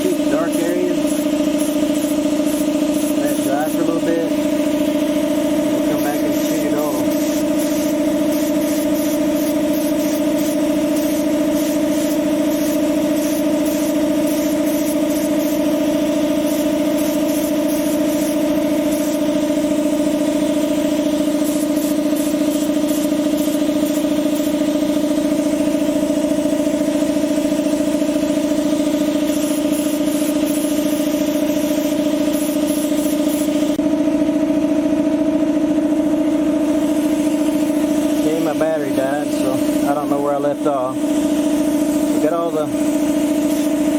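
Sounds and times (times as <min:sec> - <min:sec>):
machine humming: 0:00.0 - 0:43.9.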